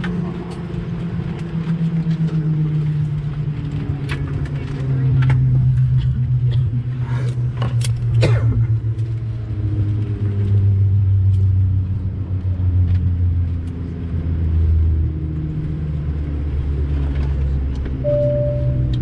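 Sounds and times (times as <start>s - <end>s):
airplane cabin engine drone: 0.0s - 19.0s.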